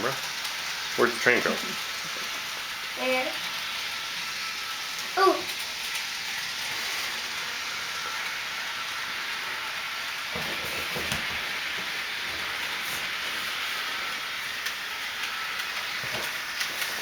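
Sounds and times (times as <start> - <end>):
toy electric train whirring: 0.0 - 17.0.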